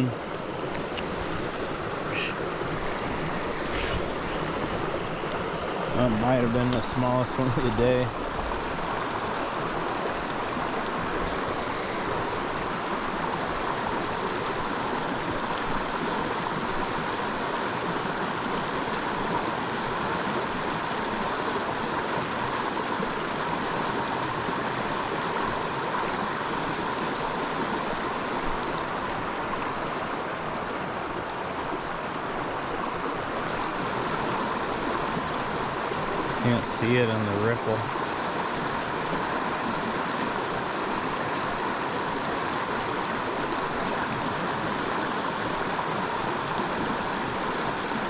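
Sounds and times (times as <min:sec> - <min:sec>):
mountain creek running: 0:00.0 - 0:48.0.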